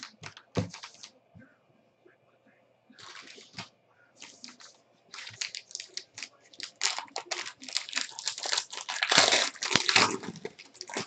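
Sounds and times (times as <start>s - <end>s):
foil wrapper crinkling: 0.0s - 1.1s, 3.0s - 11.0s.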